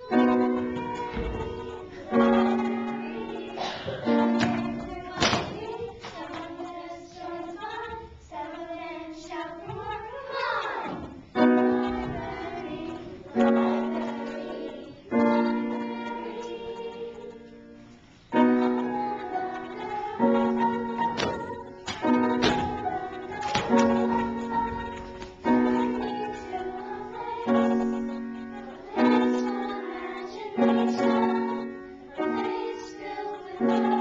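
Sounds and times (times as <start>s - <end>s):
children singing: 0.0s - 34.0s
piano chords: 0.0s - 34.0s.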